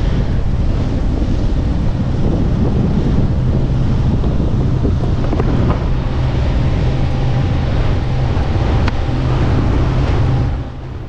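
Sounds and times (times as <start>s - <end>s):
steady low hum: 0.0s - 11.0s
water rushing and splashing: 0.0s - 11.0s
wind buffeting microphone: 0.0s - 11.0s.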